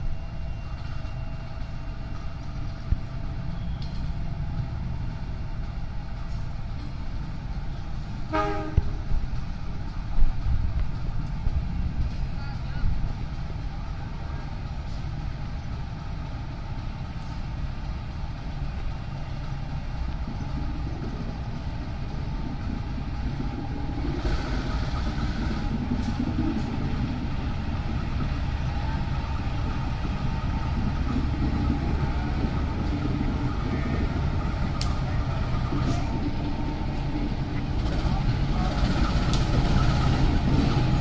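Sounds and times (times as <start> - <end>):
diesel locomotive engine running: 0.0 - 41.0.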